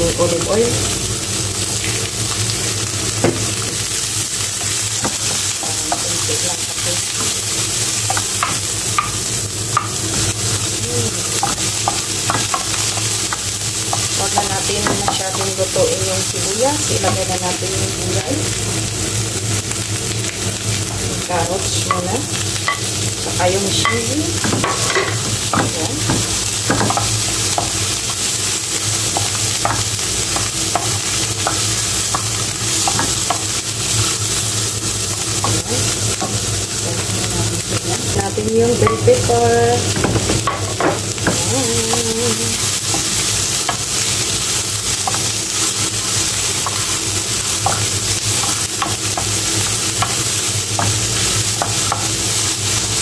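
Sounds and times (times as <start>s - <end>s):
vegetables sizzling in oil: 0.0s - 53.0s.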